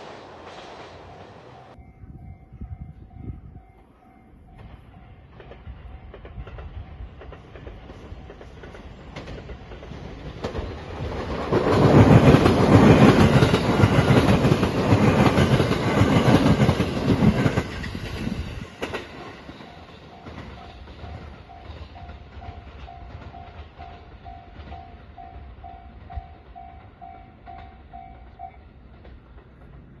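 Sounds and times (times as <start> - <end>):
train wheels clattering: 4.6 - 30.0.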